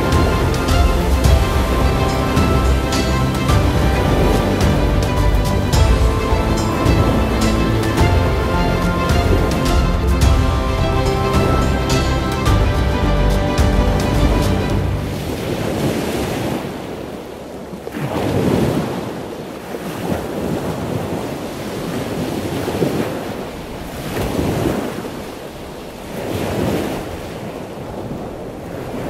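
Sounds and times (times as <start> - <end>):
waves washing in: 0.0 - 29.0.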